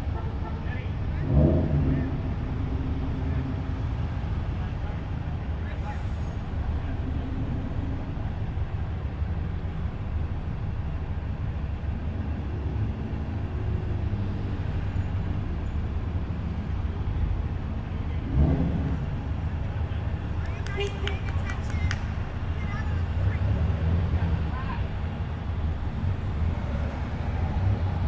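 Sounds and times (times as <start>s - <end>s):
car engine low rumble: 0.0s - 28.0s.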